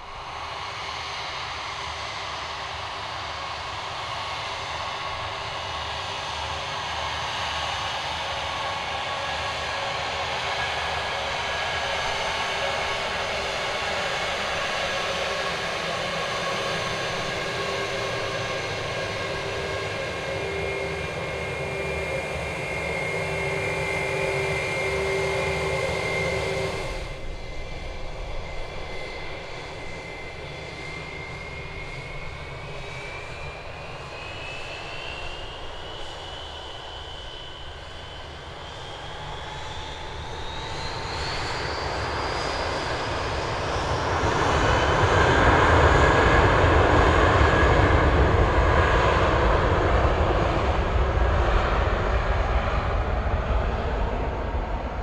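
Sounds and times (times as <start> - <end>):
jet engines whining: 3.0 - 55.0.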